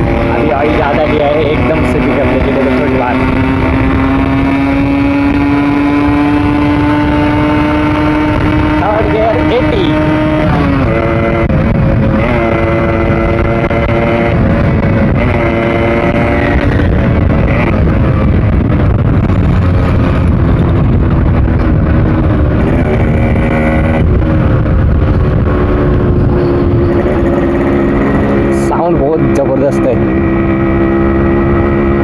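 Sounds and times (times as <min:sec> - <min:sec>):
two-stroke motorcycle engine revving: 0:00.0 - 0:32.0
wind rumble on microphone: 0:00.0 - 0:32.0.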